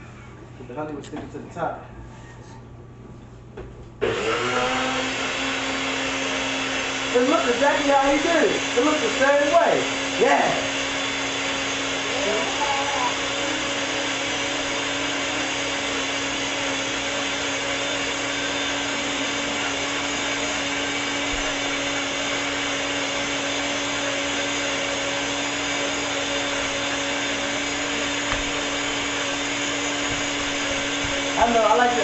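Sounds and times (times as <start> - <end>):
blender running: 4.0 - 32.0.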